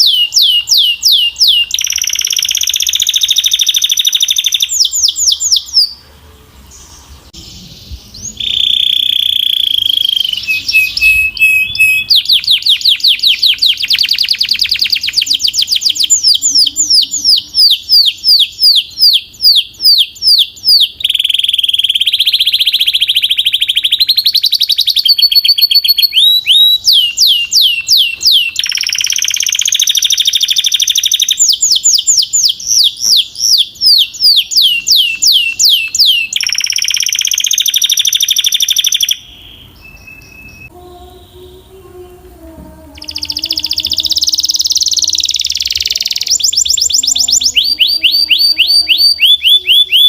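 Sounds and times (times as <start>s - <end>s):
canary singing: 0.0s - 50.0s.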